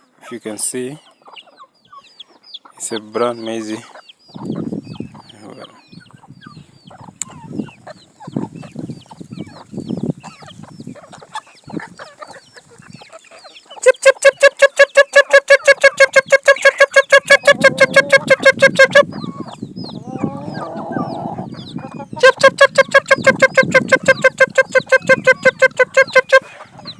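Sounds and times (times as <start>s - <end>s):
chickens clucking: 0.1s - 26.9s
chicks peeping: 0.2s - 26.9s
rapid repeated bird call: 1.0s - 26.9s.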